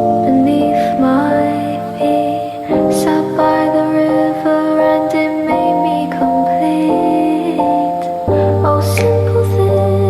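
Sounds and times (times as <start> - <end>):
soft slow music with bass: 0.0 - 10.0.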